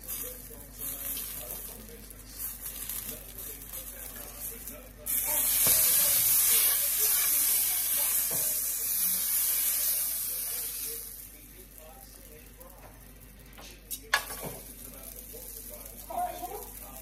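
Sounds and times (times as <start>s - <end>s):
eggplant sizzling in pan: 0.0s - 17.0s.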